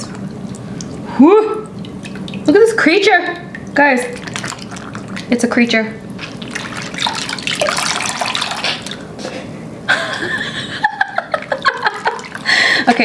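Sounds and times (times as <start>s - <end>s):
hands kneading dough in water: 0.0s - 9.1s, 11.2s - 13.0s
water sloshing and splashing: 0.0s - 9.2s, 11.3s - 13.0s.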